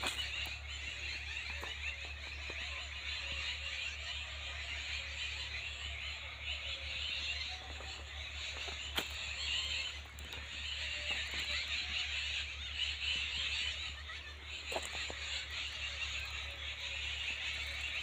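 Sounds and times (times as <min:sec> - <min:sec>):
high-pitched animal chorus: 0:00.0 - 0:18.0.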